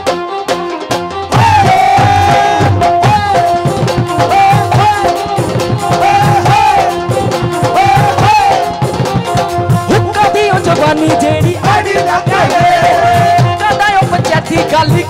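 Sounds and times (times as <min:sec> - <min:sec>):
fast drum strokes: 0:00.0 - 0:15.0
folk-pop melody: 0:00.0 - 0:15.0.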